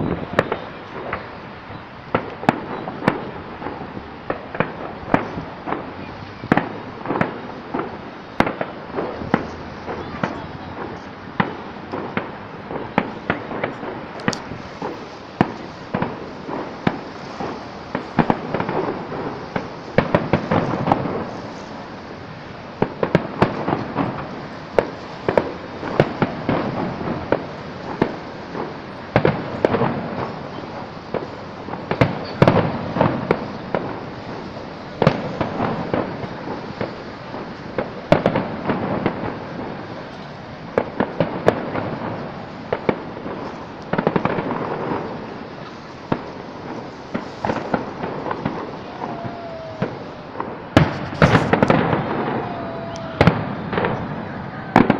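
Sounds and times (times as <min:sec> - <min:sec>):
fireworks bangs and crackle: 0:00.0 - 0:54.9.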